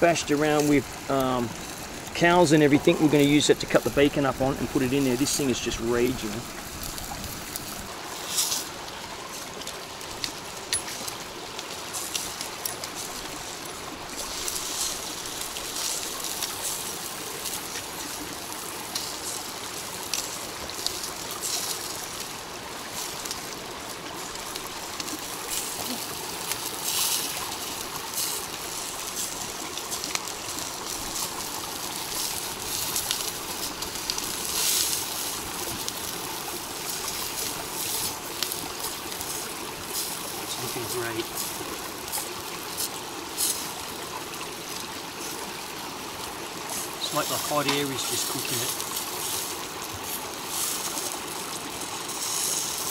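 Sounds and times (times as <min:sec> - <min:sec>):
creek trickling: 0:00.0 - 0:52.9
wood fire crackling: 0:00.0 - 0:52.9.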